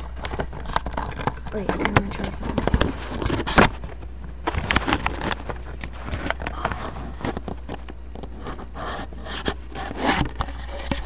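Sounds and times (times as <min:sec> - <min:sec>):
webcam handling knocks and rubbing: 0:00.0 - 0:11.0.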